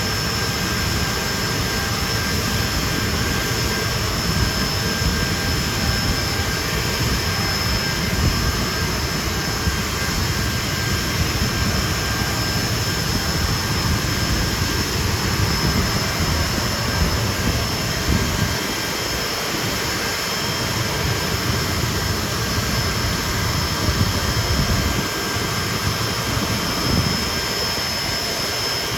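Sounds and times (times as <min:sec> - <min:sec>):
high steady jet whine: 0:00.0 - 0:28.9
jet engines rumbling: 0:00.0 - 0:28.9.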